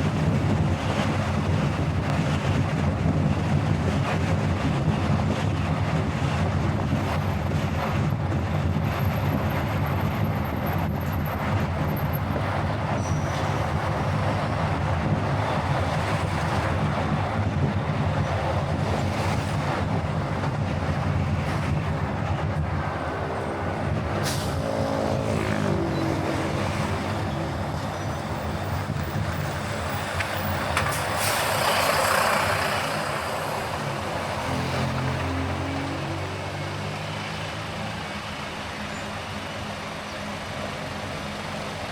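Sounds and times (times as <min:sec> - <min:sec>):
car road and engine noise: 0:00.0 - 0:41.9
rush of noise: 0:00.0 - 0:41.9.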